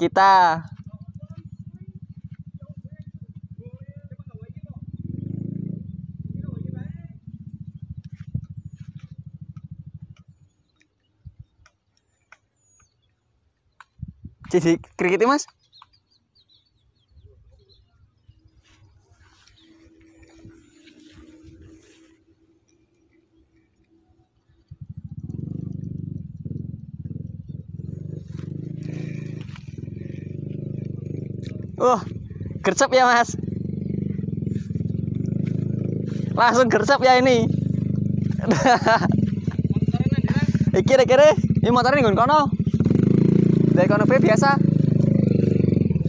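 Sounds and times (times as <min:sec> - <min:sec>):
small engine running: 0:00.0 - 0:11.0, 0:18.4 - 0:46.0.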